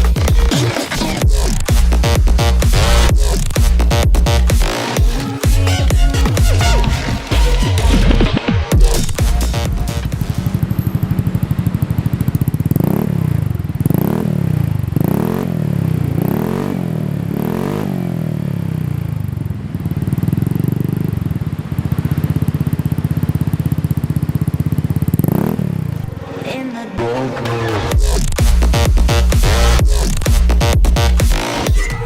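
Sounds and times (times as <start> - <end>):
motorcycle engine idling and revving: 0.0 - 26.2, 27.7 - 32.0.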